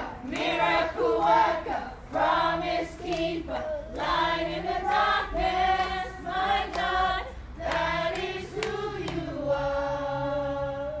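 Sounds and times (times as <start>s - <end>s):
children singing a worship song: 0.0s - 11.0s.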